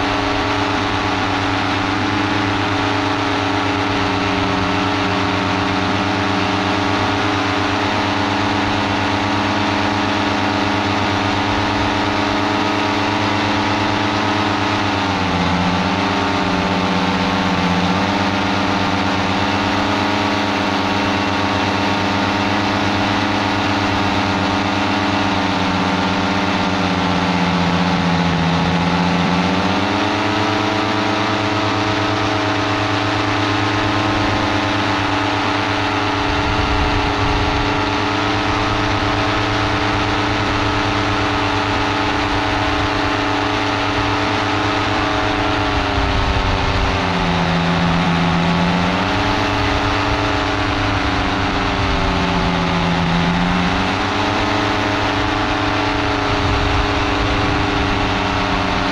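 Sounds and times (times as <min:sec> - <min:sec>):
paramotor engine and propeller: 0:00.0 - 0:58.9.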